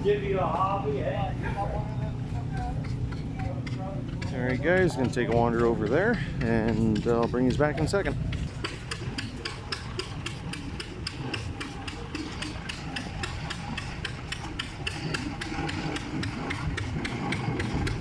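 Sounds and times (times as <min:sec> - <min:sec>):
engine knocking: 0:02.5 - 0:18.0.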